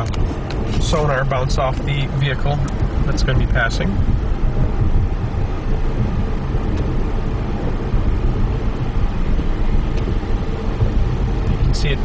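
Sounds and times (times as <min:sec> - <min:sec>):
road and tyre noise in car: 0:00.0 - 0:12.0.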